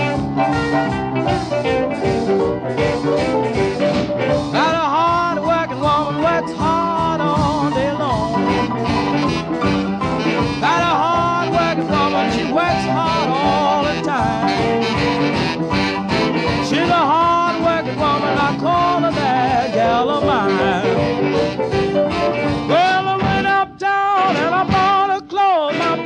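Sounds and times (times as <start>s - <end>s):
music with steady beat: 0.0s - 26.0s.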